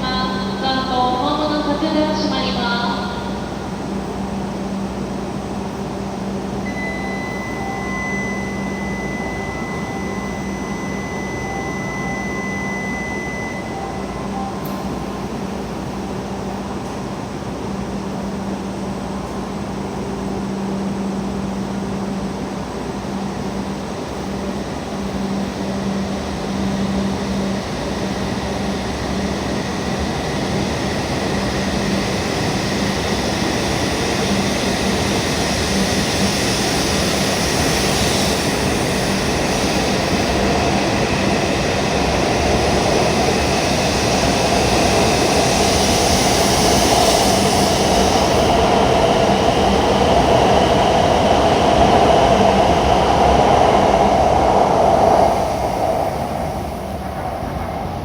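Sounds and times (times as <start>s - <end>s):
train pulling out: 0.0s - 58.0s.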